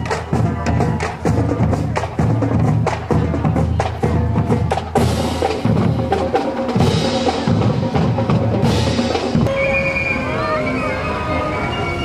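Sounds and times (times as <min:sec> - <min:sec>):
marching drum line cadence: 0:00.0 - 0:12.0.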